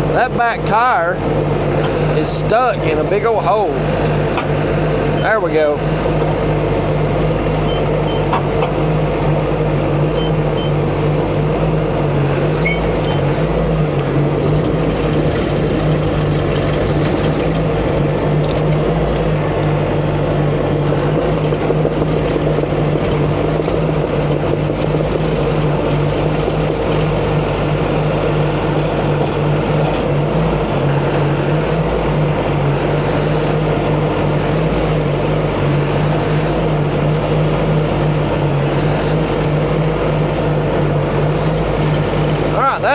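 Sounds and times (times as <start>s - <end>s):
heavy diesel engine under load: 0.0s - 42.9s.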